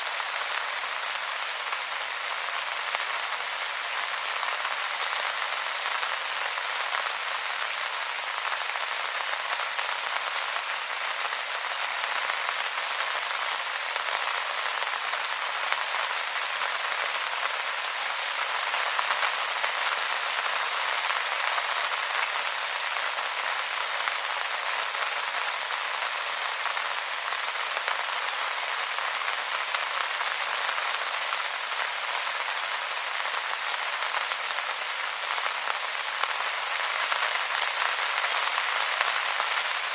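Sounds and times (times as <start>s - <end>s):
rain falling on wet leaves: 0.0s - 39.9s.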